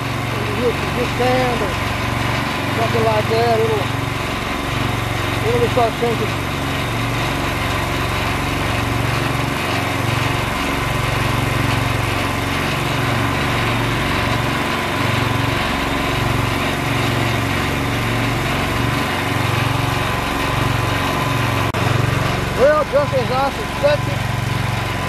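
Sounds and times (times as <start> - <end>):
drilling rig engine running: 0.0 - 25.0.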